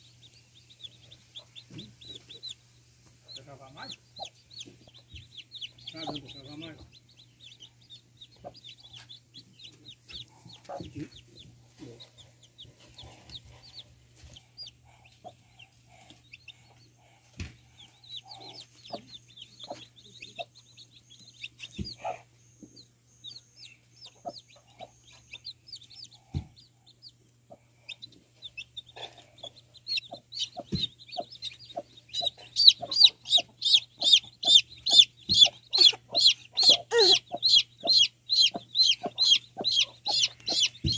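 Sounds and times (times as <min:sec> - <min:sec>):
chicks peeping: 0:00.0 - 0:40.9
hen clucking: 0:00.3 - 0:02.6, 0:03.2 - 0:40.9.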